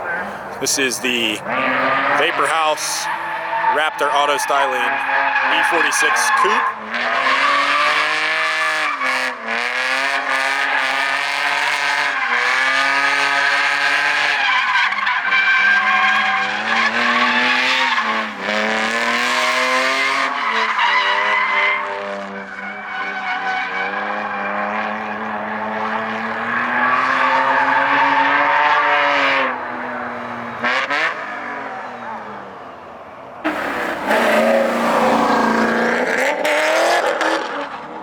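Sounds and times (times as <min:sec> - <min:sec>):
tyres skidding and squealing: 0:00.0 - 0:38.0
car engine revving hard: 0:01.3 - 0:14.6, 0:15.5 - 0:22.4, 0:23.0 - 0:31.5, 0:33.4 - 0:38.0.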